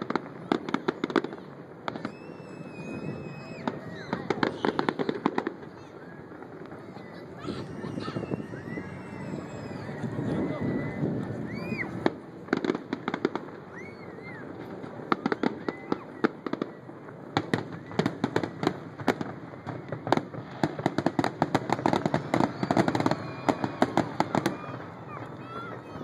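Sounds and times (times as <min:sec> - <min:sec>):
fireworks bangs and crackles: 0:00.0 - 0:26.0
fireworks whistling: 0:00.0 - 0:26.0.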